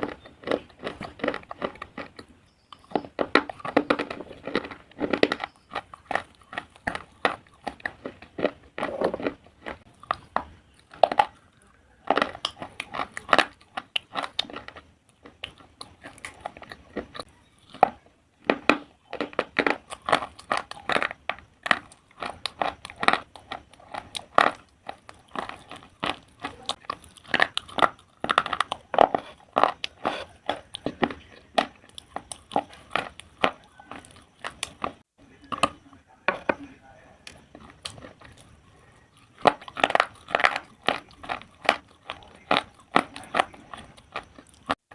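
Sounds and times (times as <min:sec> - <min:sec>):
slate crunching and cracking: 0:00.0 - 0:44.9.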